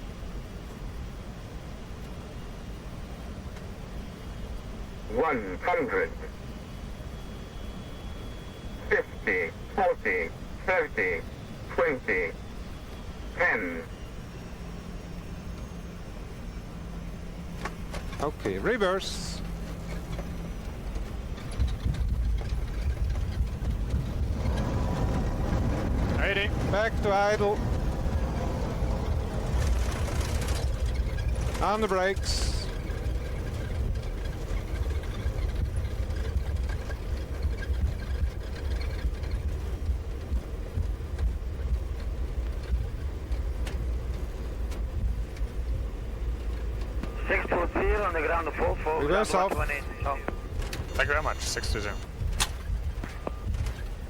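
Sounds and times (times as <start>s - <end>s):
aircraft low rumble on runway: 0.0s - 54.0s
jet engines in reverse thrust: 0.0s - 54.0s.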